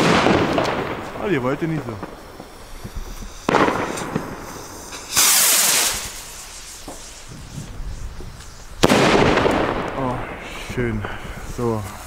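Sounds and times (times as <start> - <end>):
firework burst: 0.0 - 12.0
rocket hissing lift-off: 0.0 - 12.0.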